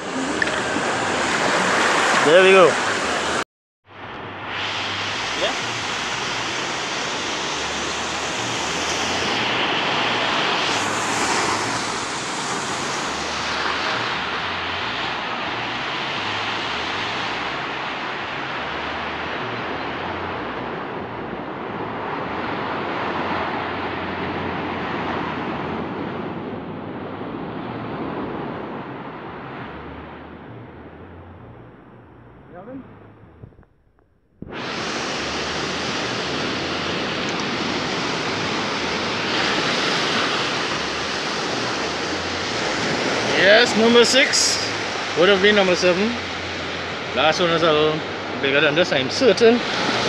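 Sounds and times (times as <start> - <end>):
surf washing up beach: 0.0 - 31.5, 34.4 - 50.0.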